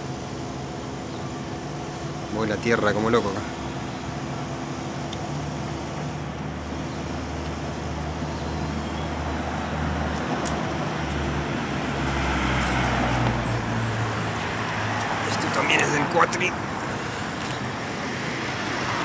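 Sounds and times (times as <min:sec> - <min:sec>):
road noise: 0:00.0 - 0:19.0
vehicle engine hum: 0:00.0 - 0:19.0.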